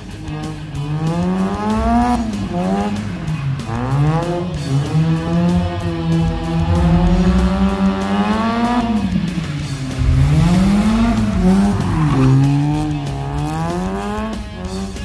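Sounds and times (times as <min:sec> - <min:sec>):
rotary engine revving: 0:00.1 - 0:15.0.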